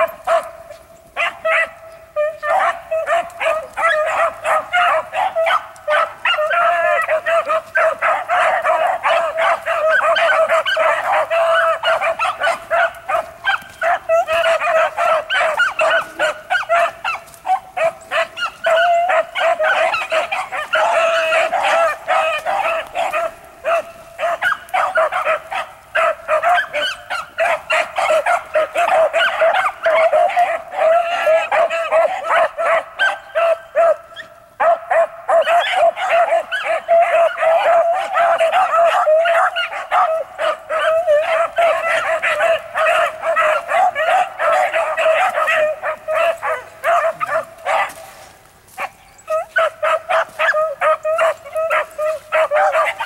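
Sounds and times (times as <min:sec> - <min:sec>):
hounds baying and barking: 0:00.0 - 0:53.0.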